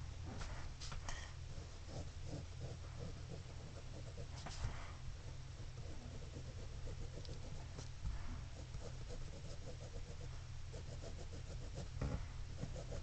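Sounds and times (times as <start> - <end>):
steady low hum: 0.0 - 13.0
pencil scratching on paper: 1.5 - 13.0.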